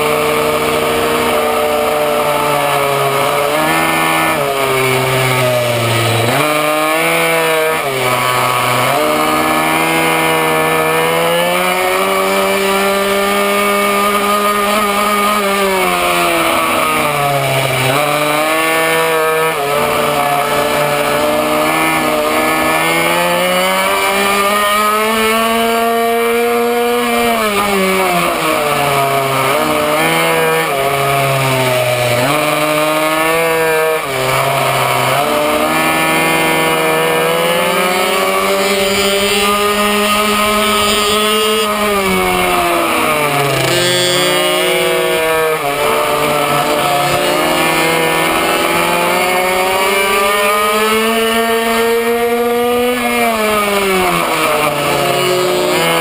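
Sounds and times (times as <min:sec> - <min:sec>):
small two-stroke engine revving: 0:00.0 - 0:56.0.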